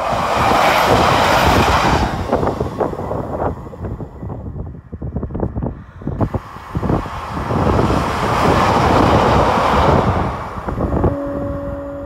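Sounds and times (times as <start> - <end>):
train engine and wheel noise: 0.0 - 12.0.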